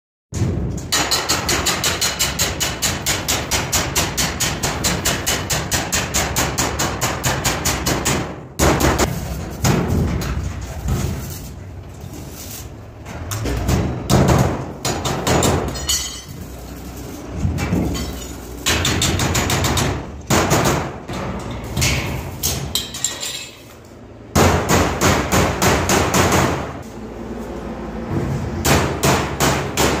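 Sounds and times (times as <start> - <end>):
hammer striking sheet metal: 0.3 - 11.5, 13.3 - 23.3, 24.4 - 26.8, 28.1 - 30.0.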